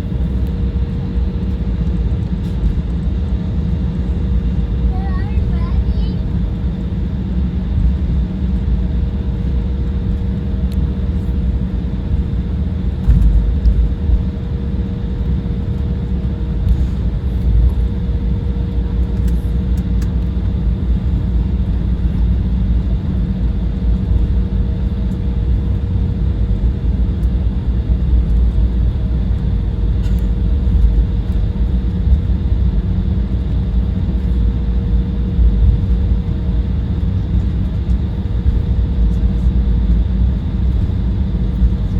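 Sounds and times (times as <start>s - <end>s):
airliner cabin low rumble: 0.0s - 41.9s
steady hum: 0.0s - 41.9s.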